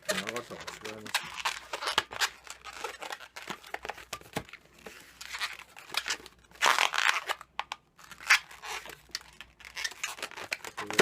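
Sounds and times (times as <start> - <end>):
rubber balloons rubbing and crinkling: 0.0 - 11.0.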